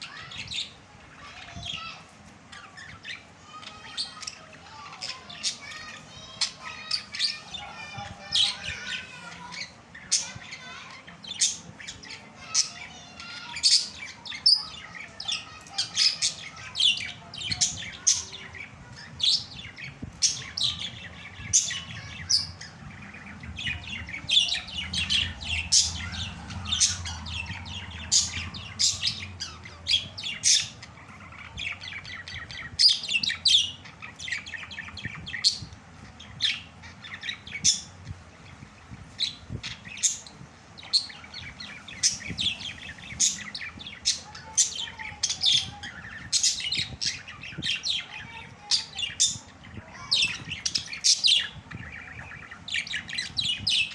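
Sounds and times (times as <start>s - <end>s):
budgerigars chirping: 5.0s - 38.0s, 39.2s - 53.9s.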